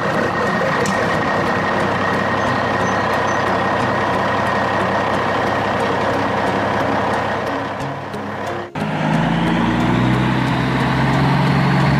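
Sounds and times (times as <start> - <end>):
truck engine running: 0.0 - 11.9.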